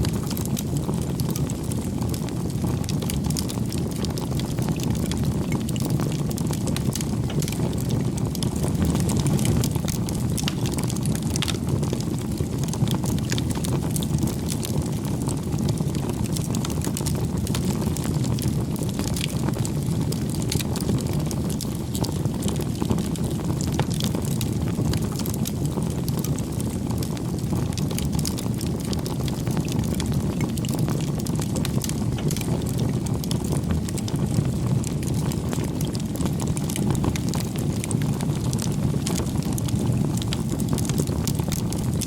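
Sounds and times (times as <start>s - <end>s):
campfire crackling: 0.0s - 42.0s.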